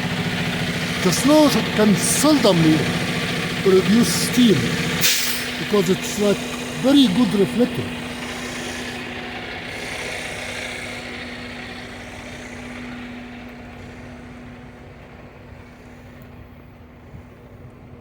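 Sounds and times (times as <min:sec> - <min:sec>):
vehicle rushing noise: 0:00.0 - 0:14.8
steady engine hum: 0:00.0 - 0:18.0.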